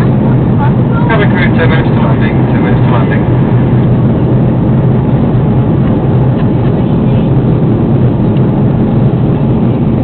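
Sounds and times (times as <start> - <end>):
engines rumbling in plane cabin: 0.0 - 10.0
rushing air: 0.0 - 10.0.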